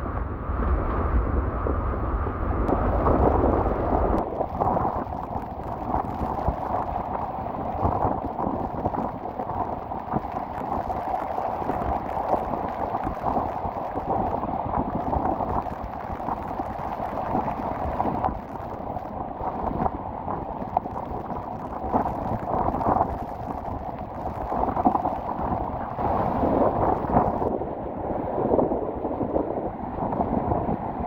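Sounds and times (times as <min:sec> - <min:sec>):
storm waves breaking: 0:00.0 - 0:31.0
wind rumbling on microphone: 0:00.0 - 0:31.0.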